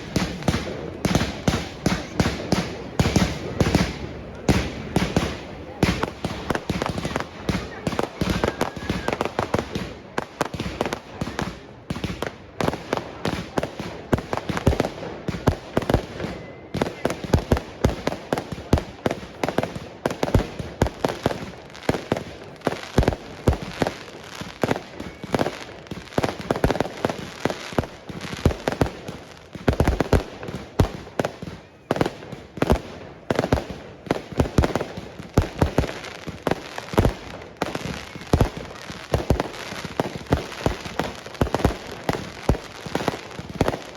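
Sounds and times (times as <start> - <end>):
fireworks bangs and pops: 0.0 - 43.9.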